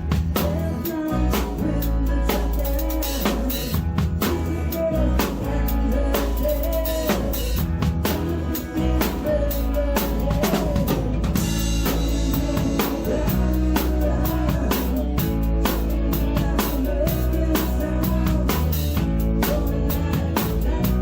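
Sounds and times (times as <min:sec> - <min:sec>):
band playing: 0:00.0 - 0:21.0.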